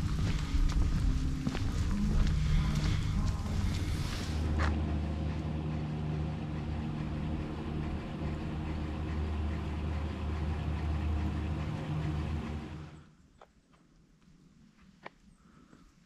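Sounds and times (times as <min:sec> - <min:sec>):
cabin rumbling along cable: 0:00.0 - 0:13.1
cable car mechanical hum: 0:00.0 - 0:13.2.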